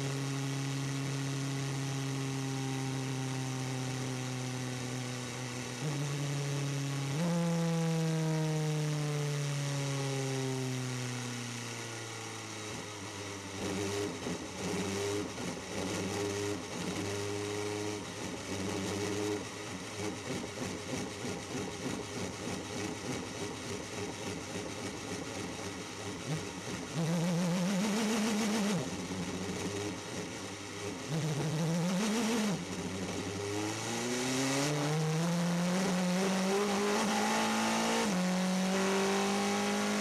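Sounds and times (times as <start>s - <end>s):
race car engine: 0.0s - 40.0s.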